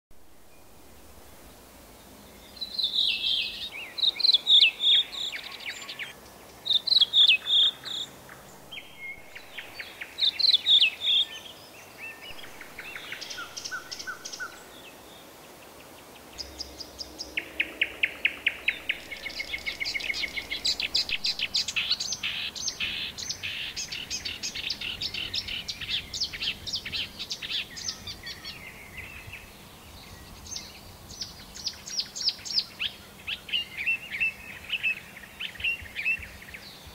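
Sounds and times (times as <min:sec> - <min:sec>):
bird singing: 0:02.2 - 0:36.9.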